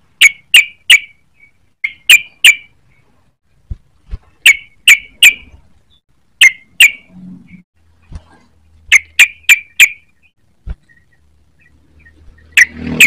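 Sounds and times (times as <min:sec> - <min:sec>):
bird chirping: 0:00.2 - 0:03.2, 0:04.3 - 0:08.1, 0:08.9 - 0:13.0.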